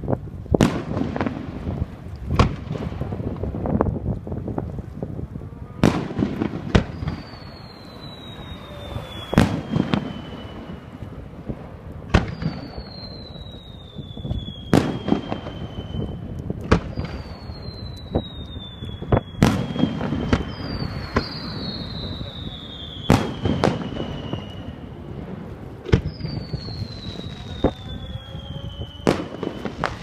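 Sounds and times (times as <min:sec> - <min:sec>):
rumbling crackle: 0:00.0 - 0:30.0
firework shells bursting: 0:05.8 - 0:30.0
whistling firework shells: 0:05.8 - 0:30.0.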